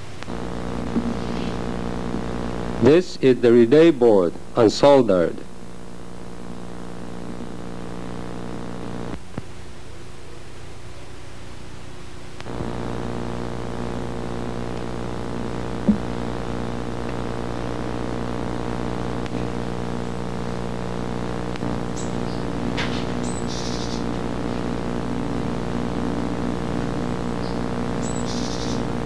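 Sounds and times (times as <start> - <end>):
buzzing hum: 0.0 - 29.0.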